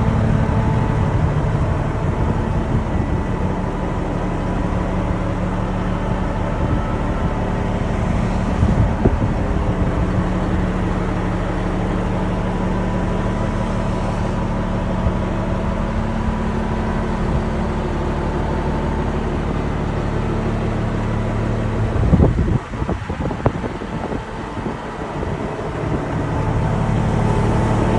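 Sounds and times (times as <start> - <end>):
diesel truck engine idling: 0.0 - 27.9.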